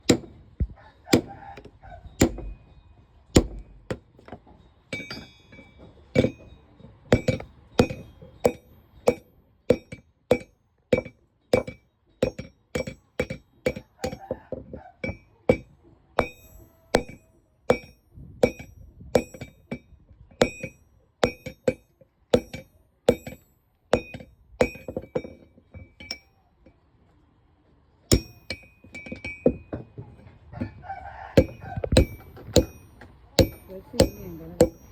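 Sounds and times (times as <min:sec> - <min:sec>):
hammer striking steel on anvil: 0:00.0 - 0:00.5, 0:01.1 - 0:02.7, 0:03.4 - 0:14.4, 0:15.0 - 0:26.5, 0:28.1 - 0:30.0, 0:31.4 - 0:34.9.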